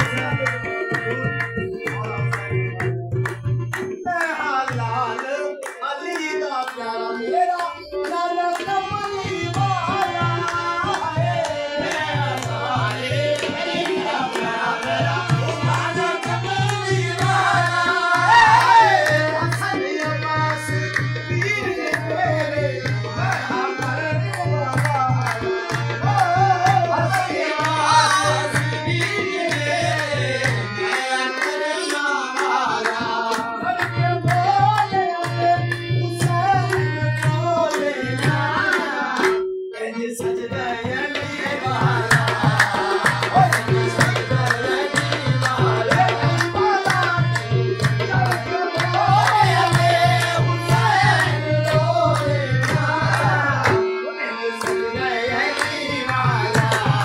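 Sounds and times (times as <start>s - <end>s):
tabla: 0.0s - 57.0s.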